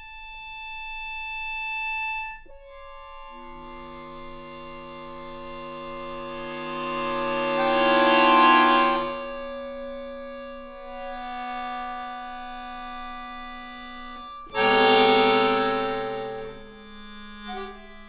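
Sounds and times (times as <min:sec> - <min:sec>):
accordion chords: 0:00.0 - 0:18.0.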